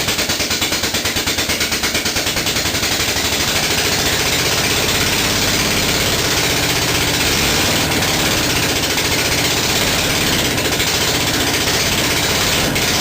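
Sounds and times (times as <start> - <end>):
engine running loud without exhaust: 0.0 - 13.0.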